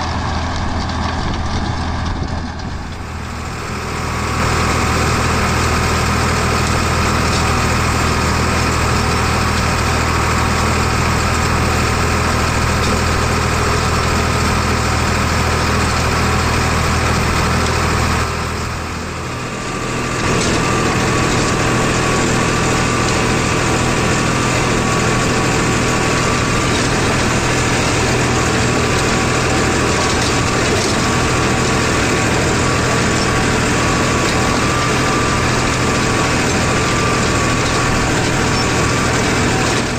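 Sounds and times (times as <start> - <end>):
rotavator tilling dry soil: 0.0 - 39.9
tractor diesel engine running: 0.0 - 39.9.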